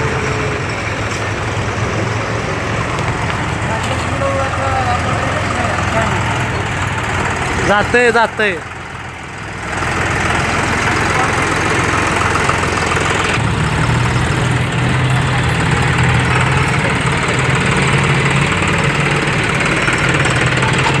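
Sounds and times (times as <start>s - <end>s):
deeper engine note: 0.0s - 21.0s
tractor engine running: 0.0s - 21.0s.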